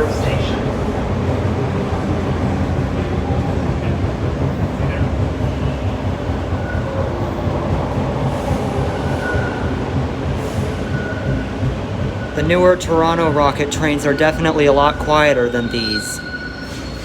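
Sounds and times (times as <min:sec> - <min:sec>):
subway car rumble and hum: 0:00.0 - 0:17.0.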